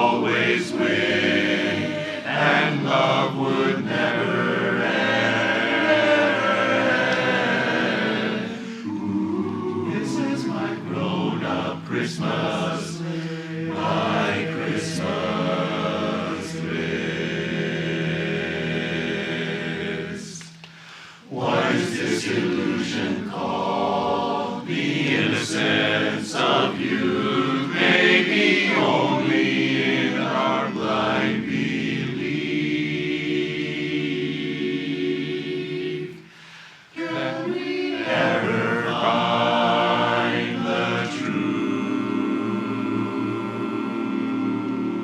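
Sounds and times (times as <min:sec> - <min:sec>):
barbershop chorus singing: 0:00.0 - 0:45.0.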